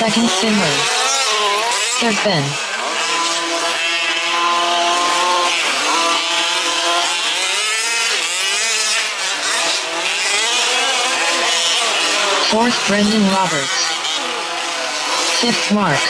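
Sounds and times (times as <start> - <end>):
small two-stroke engines revving: 0.0 - 16.0.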